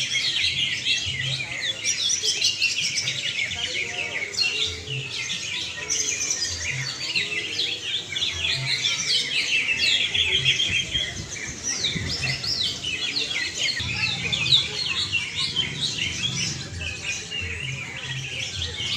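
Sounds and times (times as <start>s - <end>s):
many birds singing chirps and trills: 0.0s - 18.9s.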